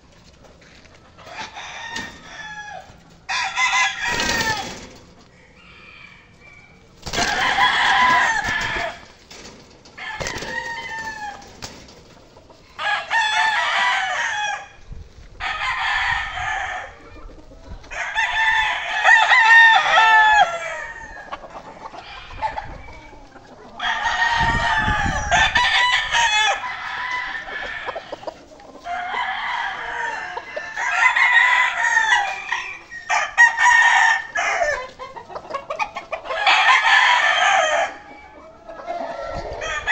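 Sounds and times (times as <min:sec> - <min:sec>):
roosters crowing: 0:00.6 - 0:39.9.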